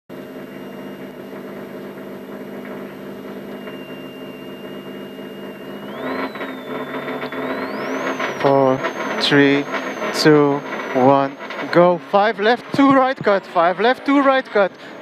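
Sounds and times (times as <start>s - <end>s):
car engine idling and revving: 0.1s - 15.0s.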